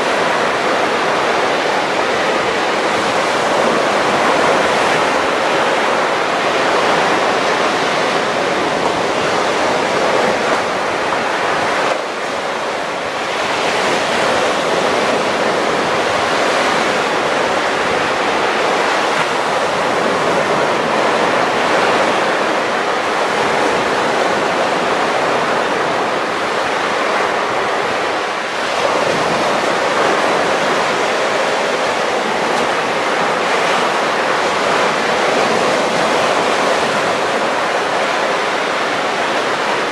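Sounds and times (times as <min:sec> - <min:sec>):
waves breaking on sandy beach: 0:00.0 - 0:39.9.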